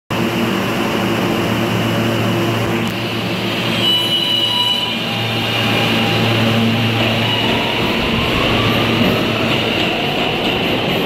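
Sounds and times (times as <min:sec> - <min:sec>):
subway train humming: 0:00.1 - 0:11.0.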